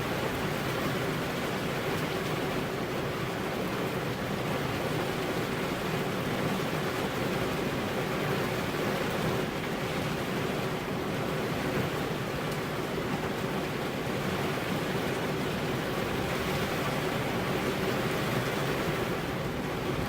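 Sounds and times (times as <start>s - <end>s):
rain on car window: 0.0s - 20.0s.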